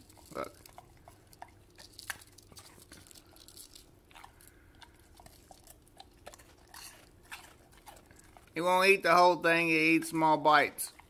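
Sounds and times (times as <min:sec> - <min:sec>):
dog crunching cracker: 0:00.0 - 0:11.0.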